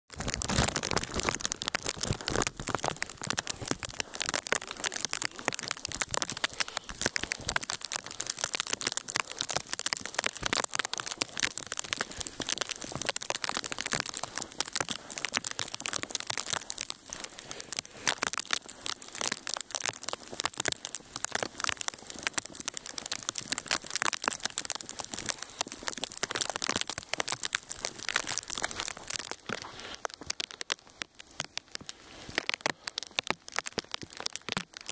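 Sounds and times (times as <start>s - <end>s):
sleet pelting ice and branches: 0.1s - 34.9s.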